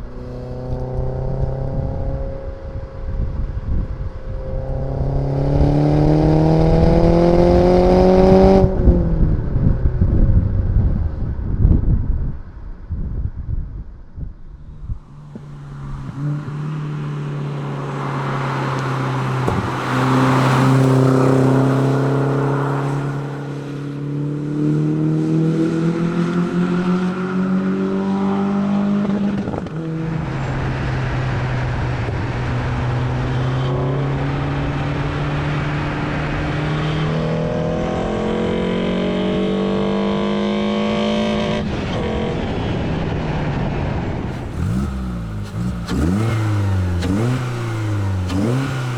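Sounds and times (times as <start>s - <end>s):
car engine accelerating hard: 0.0s - 10.4s, 14.8s - 48.9s.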